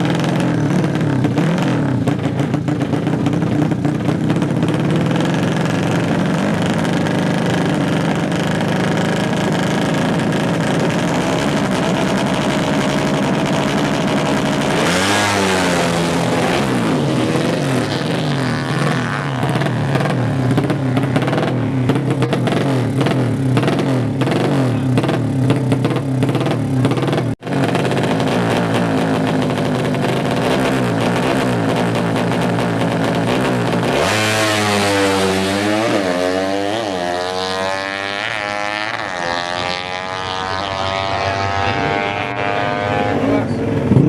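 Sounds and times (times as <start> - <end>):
motorbike engines revving hard: 0.0 - 44.0.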